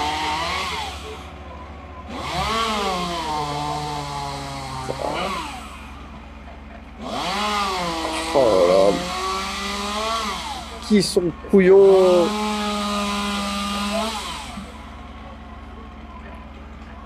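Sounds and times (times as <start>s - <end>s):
chainsaw revving: 0.0s - 16.1s
low engine rumble: 0.0s - 17.0s.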